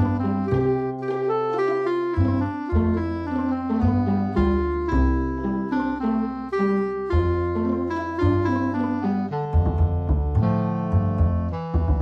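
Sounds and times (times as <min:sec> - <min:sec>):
instrumental music with bass and keyboard: 0:00.0 - 0:12.0.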